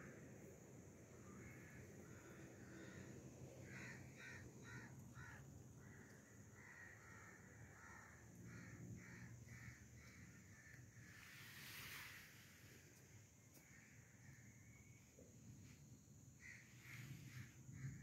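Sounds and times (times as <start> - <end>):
faint bird calls: 1.2 - 18.0.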